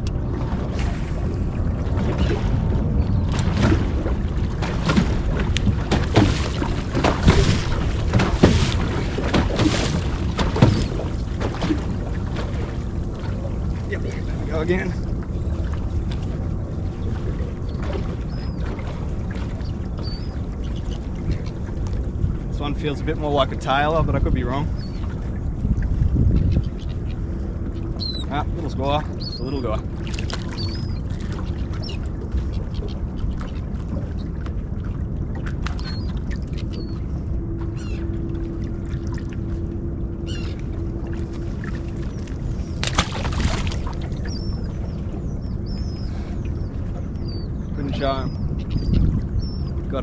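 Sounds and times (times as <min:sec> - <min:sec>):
low rumble: 0:00.0 - 0:50.0
water moving around boat: 0:00.0 - 0:50.0
wind on microphone: 0:00.0 - 0:50.0.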